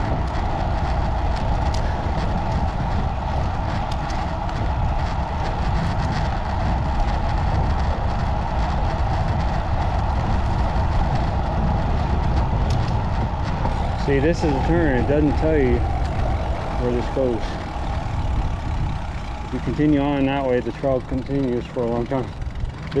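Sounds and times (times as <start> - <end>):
bicycle tyre noise on trail: 0.0 - 23.0
wind on microphone: 0.0 - 23.0.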